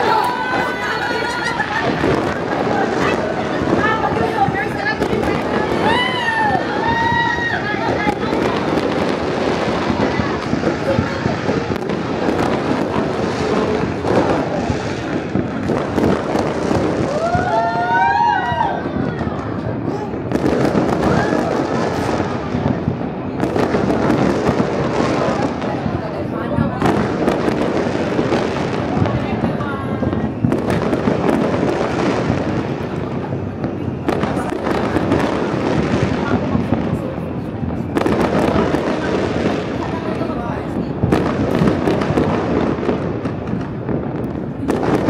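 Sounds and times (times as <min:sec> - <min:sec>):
fireworks crackling and banging: 0:00.0 - 0:45.0.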